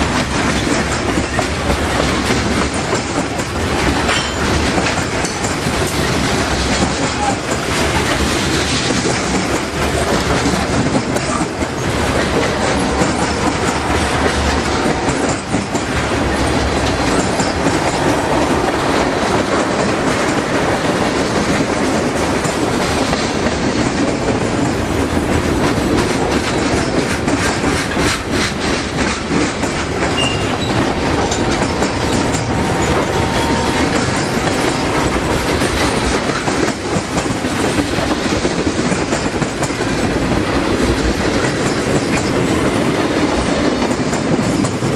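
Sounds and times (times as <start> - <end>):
freight train rumble: 0.0 - 44.9
wheels clacking over rail joints: 0.0 - 44.9.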